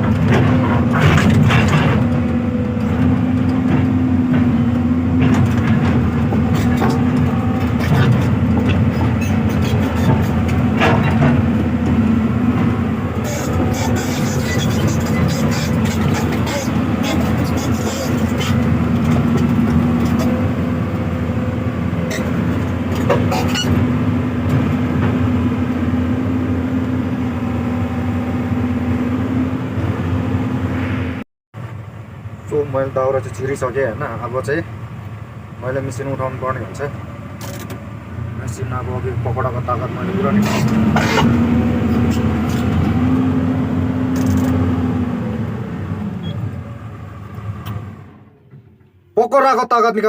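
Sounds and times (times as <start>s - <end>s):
excavator diesel engine droning: 0.0s - 49.5s.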